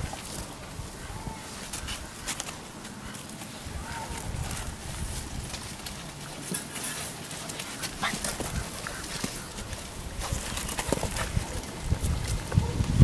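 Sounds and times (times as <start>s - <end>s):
paws scuffling through dry twigs: 0.0s - 13.0s.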